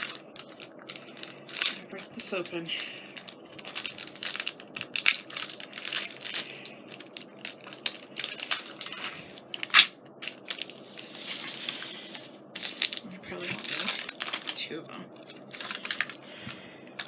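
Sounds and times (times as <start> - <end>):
paper and plastic crinkling: 0.0 - 16.7.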